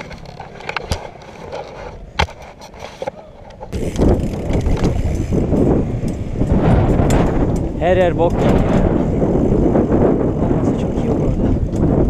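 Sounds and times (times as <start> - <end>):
bike tyres rolling over flagstones: 0.0 - 10.2.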